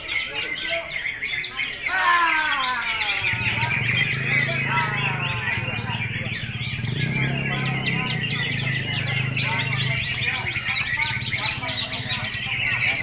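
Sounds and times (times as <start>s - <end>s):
many birds singing: 0.0s - 13.0s.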